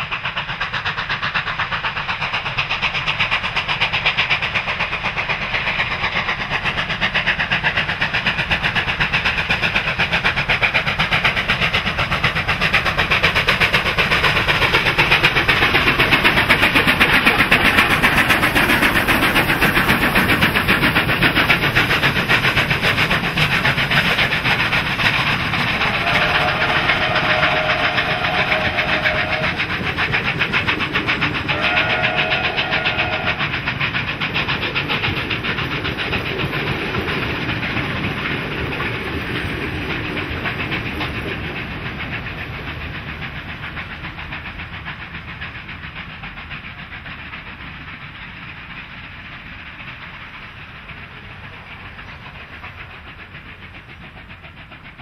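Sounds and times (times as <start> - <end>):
hissing steam: 0.0 - 55.0
steam locomotive exhaust beats: 0.0 - 55.0.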